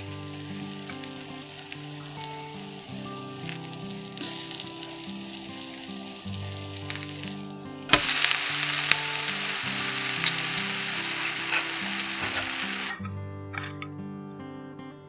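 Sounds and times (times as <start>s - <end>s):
dosa sizzling on hot pan: 0.0s - 13.0s
soft background music: 0.0s - 15.0s.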